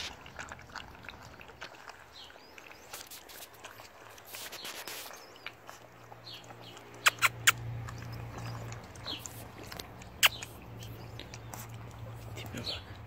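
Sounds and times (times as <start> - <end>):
puppies lapping milk: 0.0 - 13.0.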